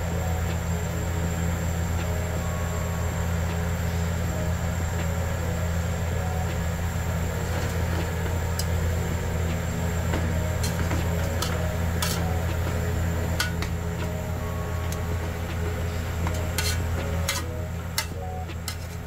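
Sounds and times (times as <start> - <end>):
faint high whine: 0.0 - 19.0
low hum: 0.0 - 19.0.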